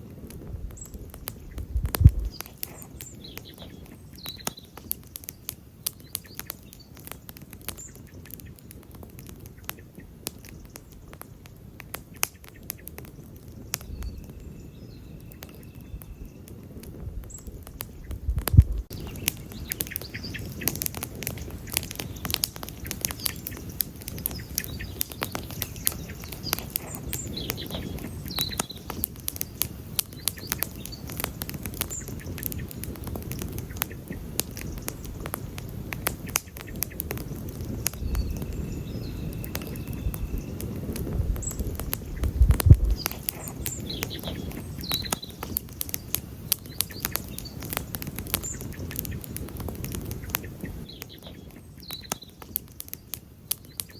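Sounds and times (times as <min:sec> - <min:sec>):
campfire crackling and popping: 0:00.0 - 0:53.9
low rumble of flames: 0:00.0 - 0:53.9
birds chirping: 0:00.6 - 0:53.9.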